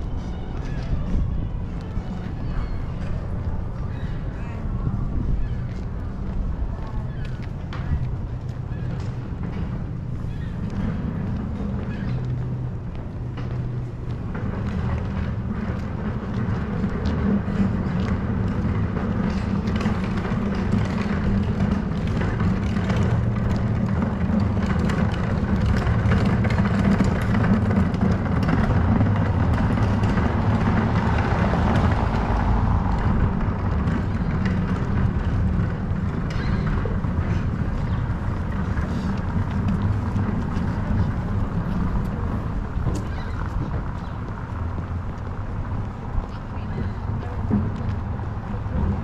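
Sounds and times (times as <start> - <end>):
distant traffic rumble: 0.0 - 49.0.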